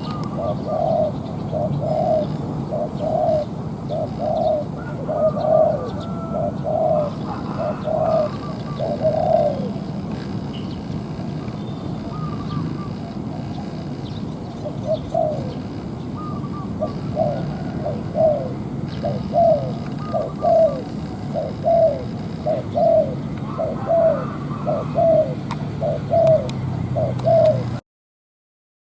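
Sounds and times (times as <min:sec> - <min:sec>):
dove cooing: 0:00.0 - 0:27.8
steady low hum: 0:00.0 - 0:27.8.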